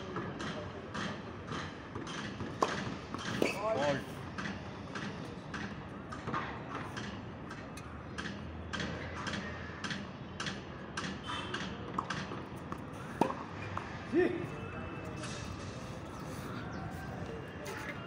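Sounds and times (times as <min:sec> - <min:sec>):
racket hitting ball: 0:01.9 - 0:03.8, 0:04.4 - 0:18.0.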